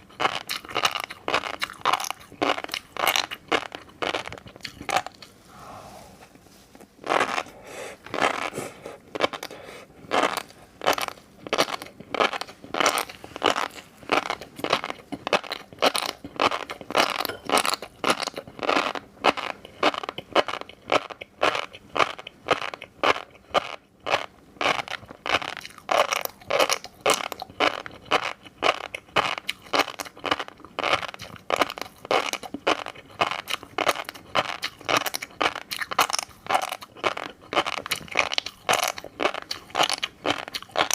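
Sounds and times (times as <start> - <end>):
chewing crunchy fish roe: 0.0 - 5.4, 6.8 - 40.9.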